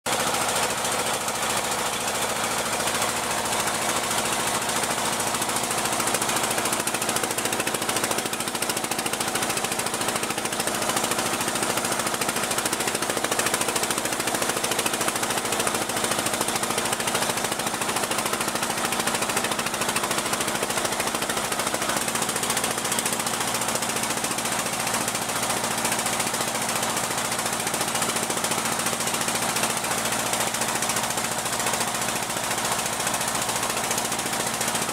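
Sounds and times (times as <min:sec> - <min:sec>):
boat engine knocking: 0:00.1 - 0:34.9.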